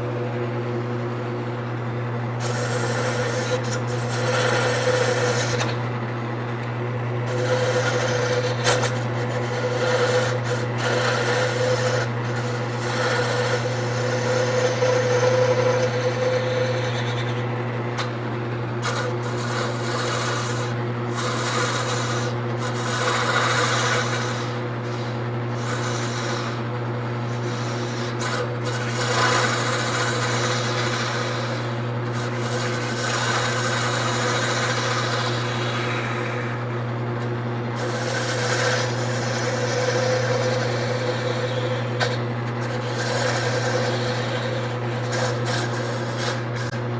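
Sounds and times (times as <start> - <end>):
wood lathe motor hum: 0.0 - 46.9
gouge scraping spinning wood: 2.3 - 46.9.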